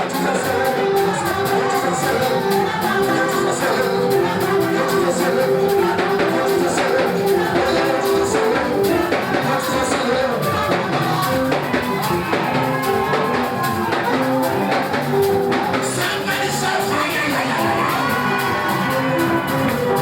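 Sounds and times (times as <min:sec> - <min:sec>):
church band music: 0:00.0 - 0:20.0
drum kit beat: 0:00.0 - 0:20.0.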